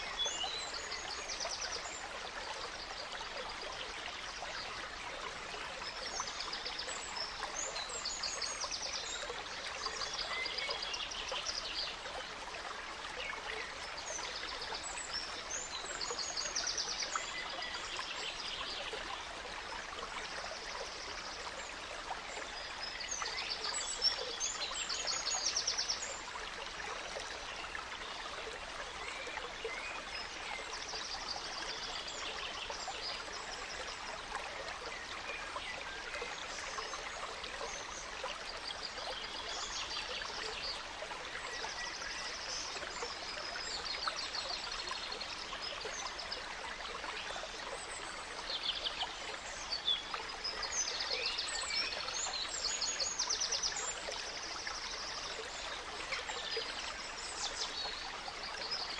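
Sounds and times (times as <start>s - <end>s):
stream trickling: 0.0s - 58.9s.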